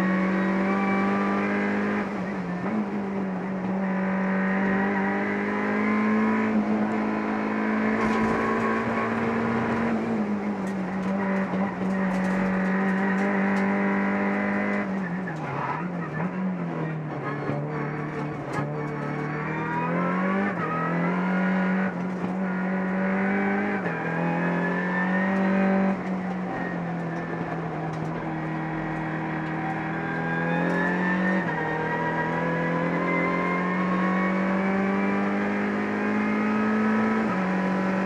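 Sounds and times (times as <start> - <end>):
race car engine accelerating: 0.0 - 38.0.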